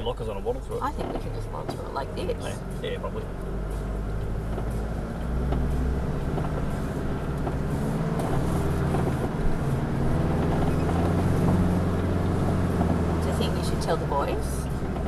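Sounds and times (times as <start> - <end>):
vehicle engine at low speed: 0.0 - 15.0.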